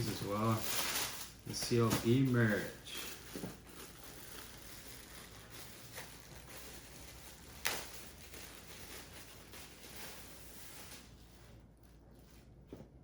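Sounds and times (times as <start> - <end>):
packaging crinkle: 0.0 - 12.5
packaging rustling: 0.0 - 12.5.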